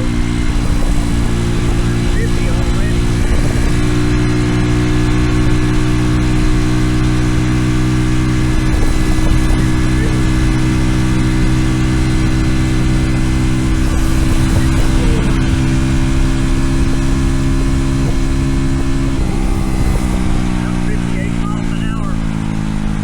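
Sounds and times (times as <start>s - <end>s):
mini bike engine running: 0.0s - 23.0s.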